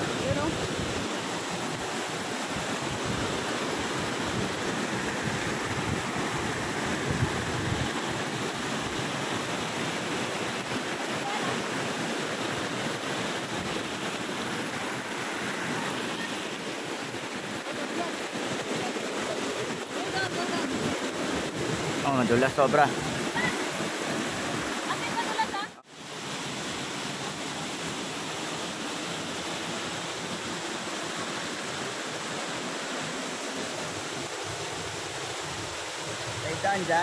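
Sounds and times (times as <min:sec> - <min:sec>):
creek water flowing over rocks: 0:00.0 - 0:37.0.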